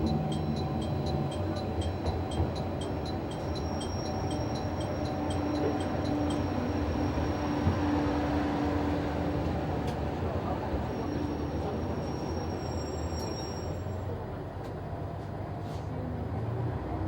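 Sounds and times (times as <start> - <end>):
train wheels rumbling: 0.0 - 14.8
diesel railcar engine drone: 0.0 - 17.0.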